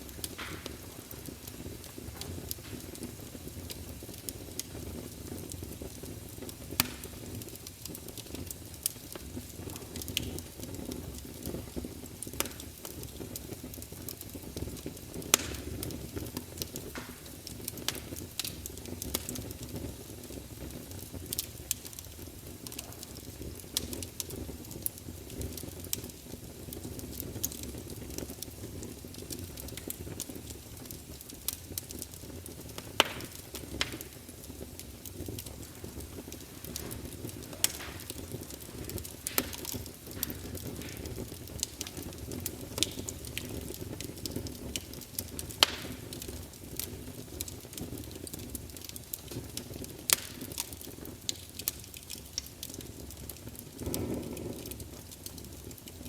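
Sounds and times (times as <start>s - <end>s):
burning wood crackling and popping: 0.0s - 56.0s
campfire rumble and hiss: 0.0s - 56.0s.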